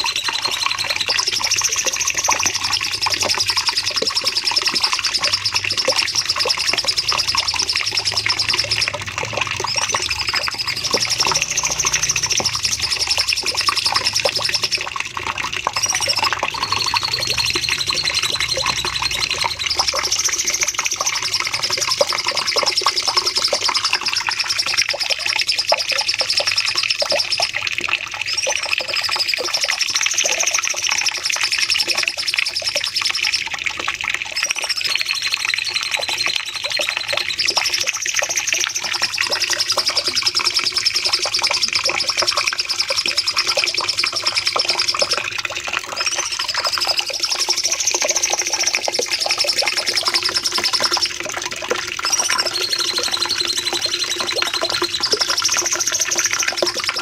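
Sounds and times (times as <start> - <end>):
songbird singing rapid high volleys: 0.0 - 26.4, 34.5 - 51.4, 52.0 - 57.0.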